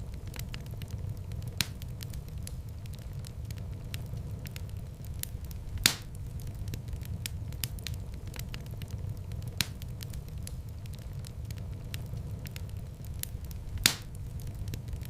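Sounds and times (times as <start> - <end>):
loud pops of fire: 0.0 - 15.0
low rumble of fire: 0.0 - 15.0
wood fire crackling: 0.0 - 15.0.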